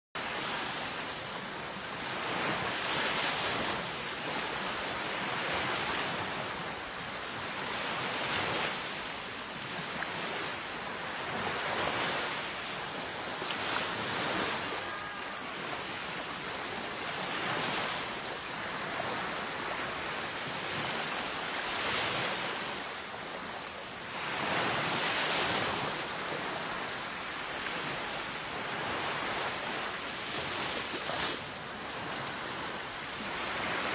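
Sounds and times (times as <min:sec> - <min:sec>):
small waves breaking on beach: 0:00.2 - 0:33.9.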